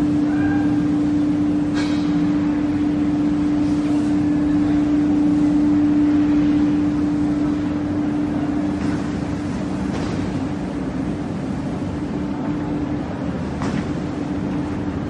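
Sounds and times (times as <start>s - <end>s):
dense mechanical noise: 0.0s - 15.0s
machinery humming with steady tone: 0.0s - 15.0s.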